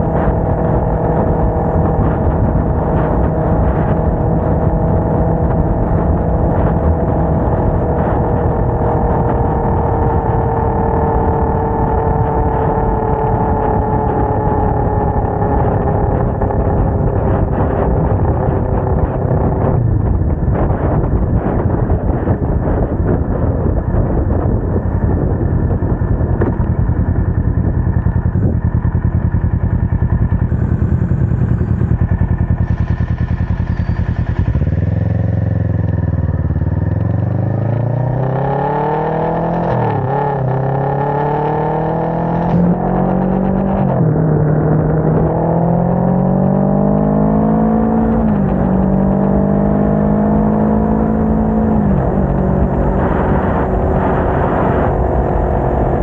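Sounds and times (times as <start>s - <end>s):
motorcycle engine accelerating: 0.0s - 56.0s
wind noise on microphone: 0.0s - 56.0s.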